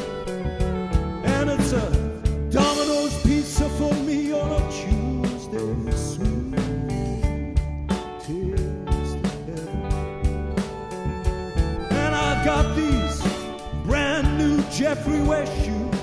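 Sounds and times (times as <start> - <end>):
instrumental rock music: 0.0 - 16.0.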